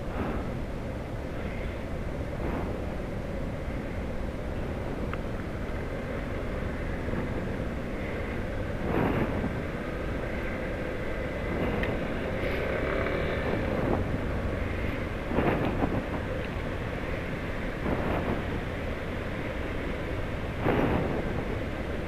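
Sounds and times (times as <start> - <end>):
wind and tyre noise: 0.0 - 22.0.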